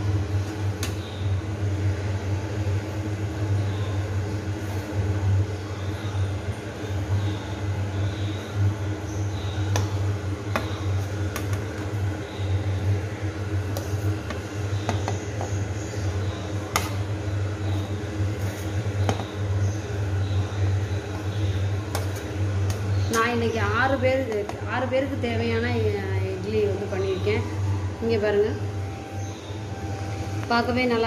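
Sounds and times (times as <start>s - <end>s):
low electric hum: 0.0s - 31.0s.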